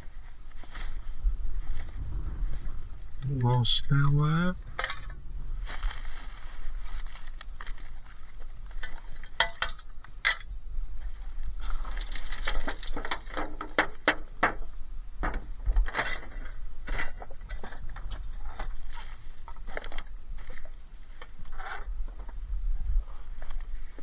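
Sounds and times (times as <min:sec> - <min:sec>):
rustling: 0:00.0 - 0:09.4, 0:10.9 - 0:14.3, 0:15.2 - 0:24.0.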